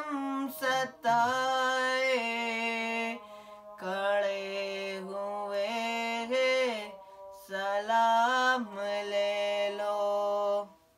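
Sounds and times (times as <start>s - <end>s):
boy singing unaccompanied: 0.0s - 10.7s.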